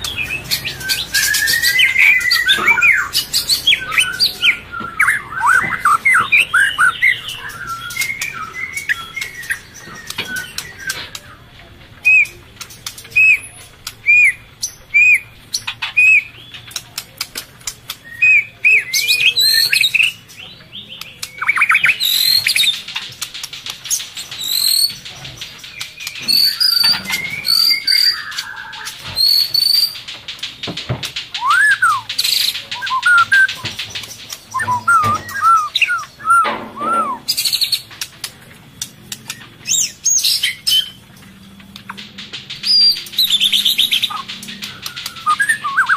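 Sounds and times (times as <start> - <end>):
whistled bird notes: 0.0 - 12.4, 17.9 - 22.8, 23.9 - 30.1, 31.3 - 41.0, 41.8 - 45.9
bird chirps and chatter: 0.0 - 45.9.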